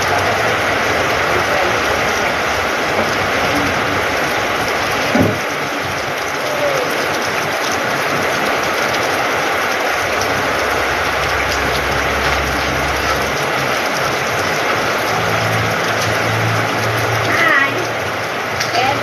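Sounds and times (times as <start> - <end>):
heavy rain on a metal roof: 0.0 - 19.0
low rumble: 0.0 - 19.0.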